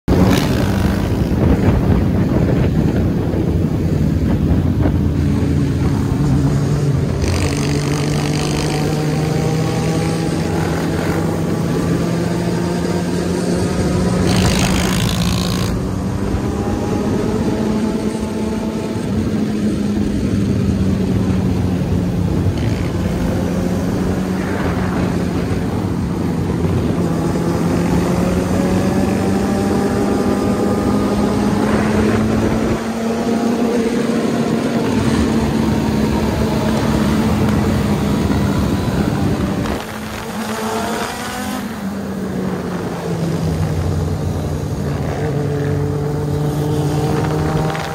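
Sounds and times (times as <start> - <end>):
motorcycle engines cruising: 0.0 - 47.9.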